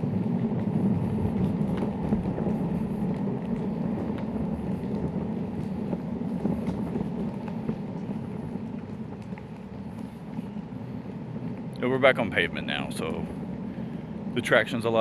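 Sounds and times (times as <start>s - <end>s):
wheels rolling over gravel: 0.0s - 15.0s.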